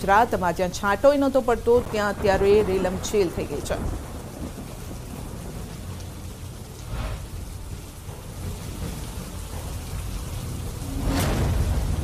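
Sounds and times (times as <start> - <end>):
heavy rain falling: 0.0 - 12.0
low rumble of thunder: 0.1 - 12.0.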